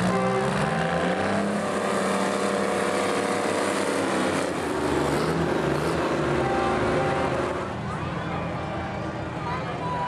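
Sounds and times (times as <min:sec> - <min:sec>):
tractor engines droning: 0:00.0 - 0:10.0.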